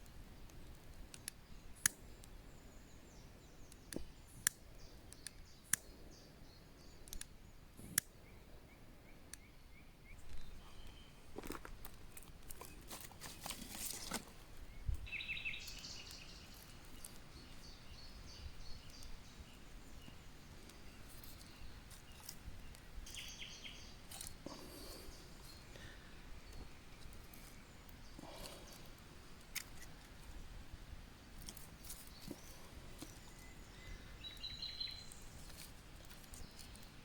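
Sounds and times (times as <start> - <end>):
songbird chirps: 0.0 - 37.0.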